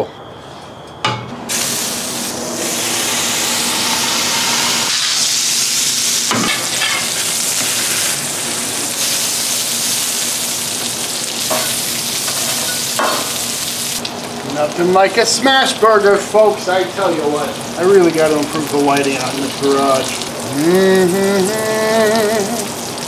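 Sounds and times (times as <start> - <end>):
burger patty sizzling on griddle: 1.5 - 23.0.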